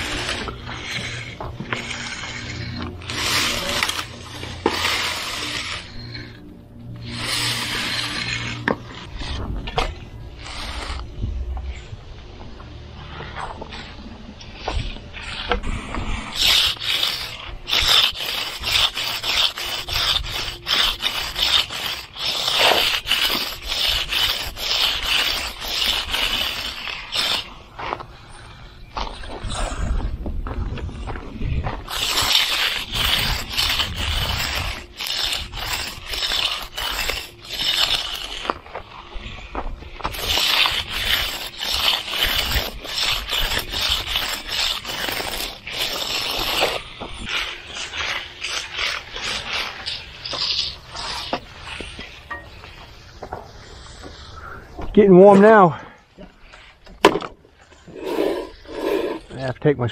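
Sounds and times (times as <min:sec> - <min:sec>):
concrete edger scraping: 0:00.0 - 0:59.9.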